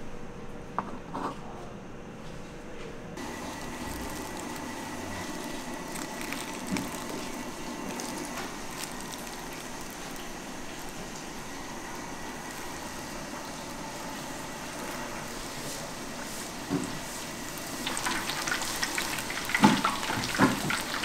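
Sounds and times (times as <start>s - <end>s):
food deep-frying in oil: 3.2s - 21.0s.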